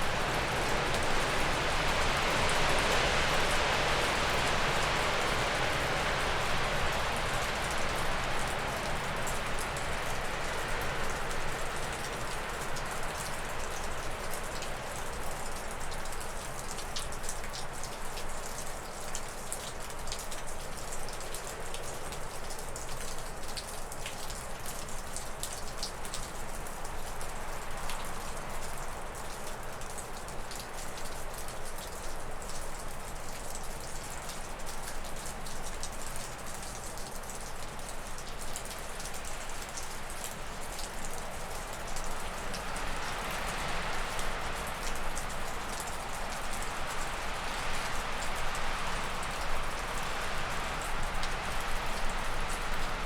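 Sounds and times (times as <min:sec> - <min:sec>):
water dripping off roof: 0:00.0 - 0:53.0.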